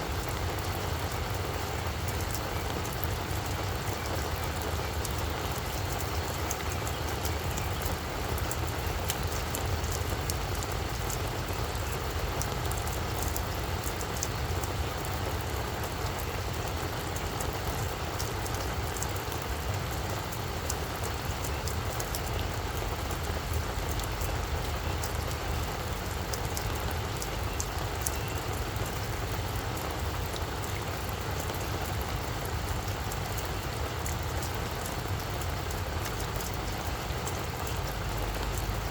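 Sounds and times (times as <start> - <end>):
rain drops ticking: 0.0 - 38.9.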